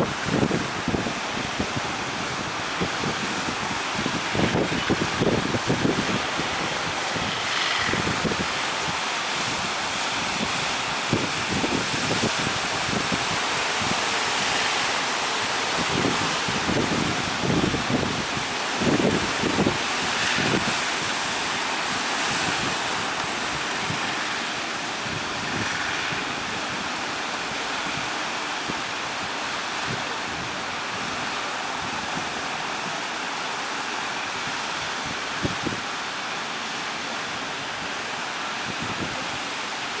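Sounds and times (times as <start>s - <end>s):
ocean waves breaking: 0.0s - 40.0s
wind buffeting microphone: 0.0s - 40.0s.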